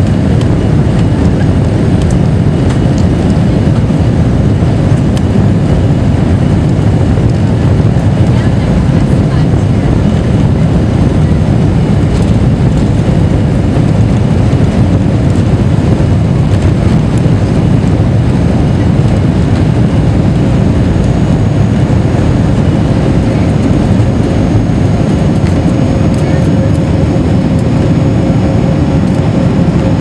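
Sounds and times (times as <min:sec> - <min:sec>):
jet engines at takeoff thrust: 0:00.0 - 0:30.0
wheel rumble: 0:00.0 - 0:30.0.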